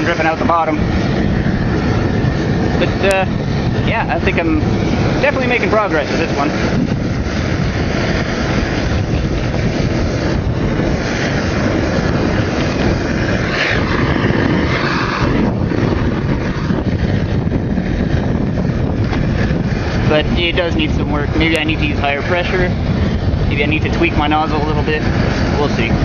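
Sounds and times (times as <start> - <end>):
burner flame roaring: 0.0 - 26.0.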